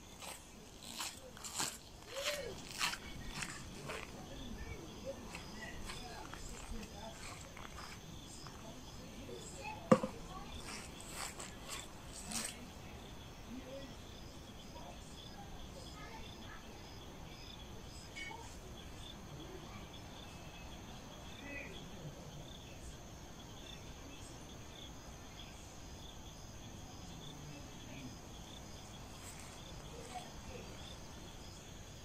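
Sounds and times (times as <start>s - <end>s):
crickets chirping: 0.0s - 32.0s
high insect drone: 0.0s - 32.0s.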